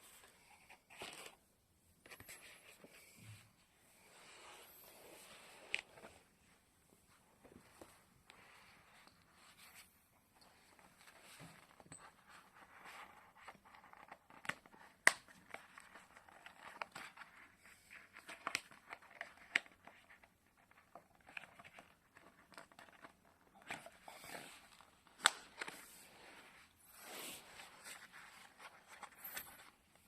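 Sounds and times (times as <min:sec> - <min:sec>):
rustling and handling: 0:00.0 - 0:30.0.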